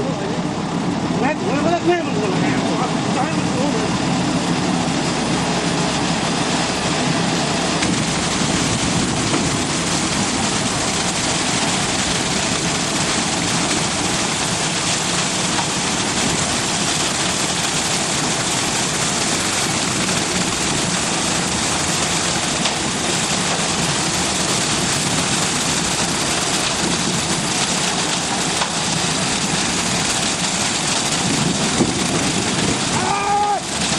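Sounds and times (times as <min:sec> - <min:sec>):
concrete mixer truck engine running: 0:00.0 - 0:33.9.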